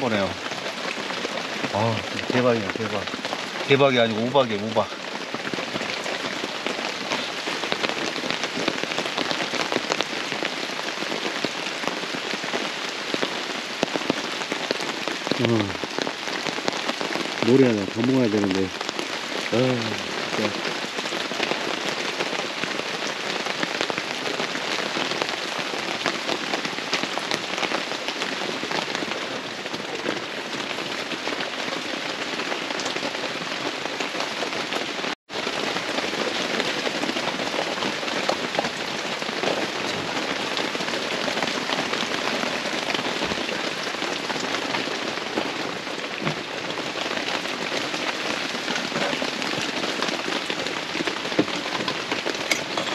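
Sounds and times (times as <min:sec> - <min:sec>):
heavy rain and hail: 0:00.0 - 0:52.9.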